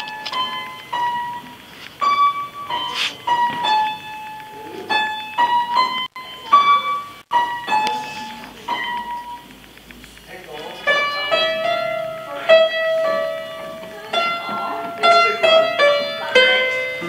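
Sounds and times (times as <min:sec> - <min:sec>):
upright piano melody: 0:00.0 - 0:09.5, 0:10.6 - 0:17.0.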